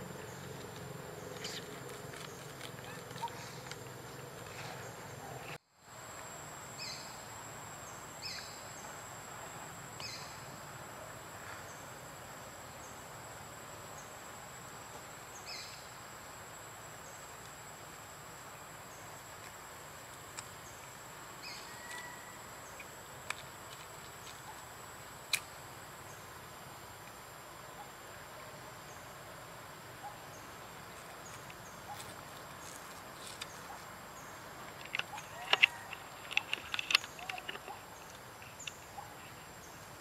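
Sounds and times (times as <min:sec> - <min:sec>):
soft background hiss: 0:00.0 - 0:40.0.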